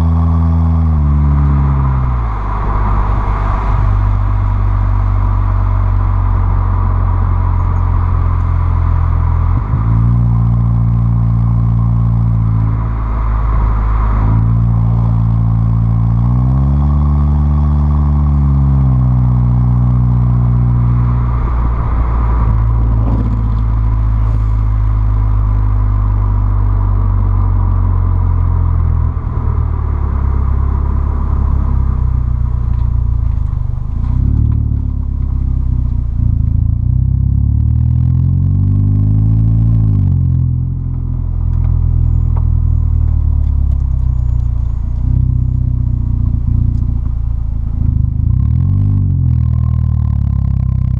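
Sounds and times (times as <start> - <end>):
car engine exhaust revving: 0.0 - 50.9.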